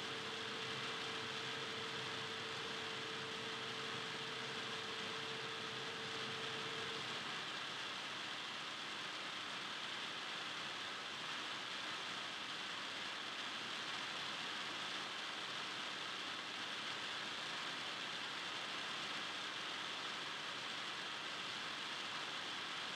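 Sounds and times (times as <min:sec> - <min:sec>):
steady room tone hiss: 0:00.0 - 0:22.9.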